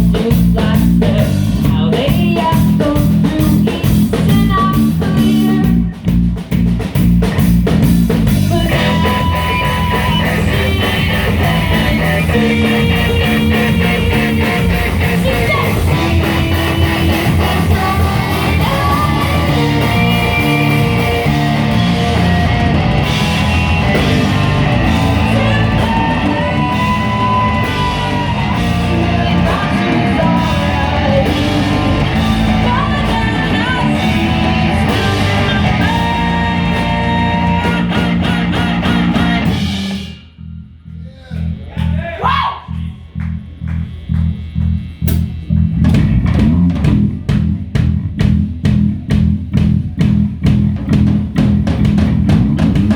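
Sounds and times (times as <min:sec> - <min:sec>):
rock band playing: 0:00.0 - 0:40.6, 0:43.0 - 0:52.9.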